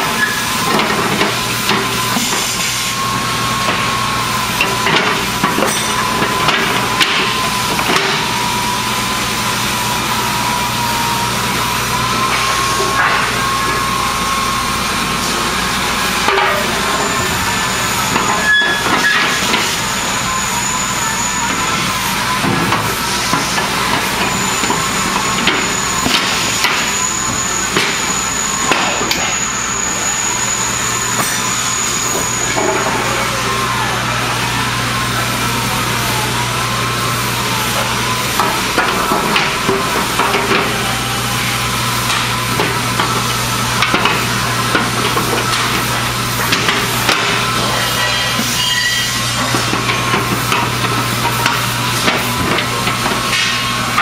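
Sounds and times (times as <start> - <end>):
workshop background noise: 0.0 - 54.0.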